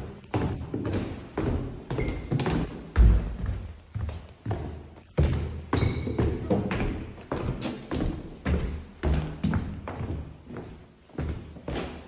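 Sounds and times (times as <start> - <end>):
heavy footsteps on stairs: 0.0 - 12.0.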